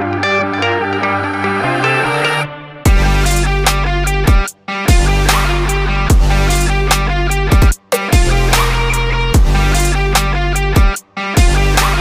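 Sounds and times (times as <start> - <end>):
electronic music with deep bass hits: 0.0 - 12.0
plucked guitar-like line: 0.0 - 12.0.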